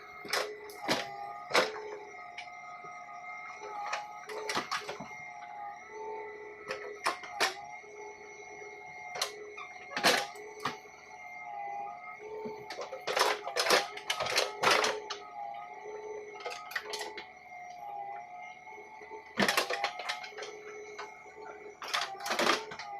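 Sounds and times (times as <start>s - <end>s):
machine whine: 0.0s - 22.9s.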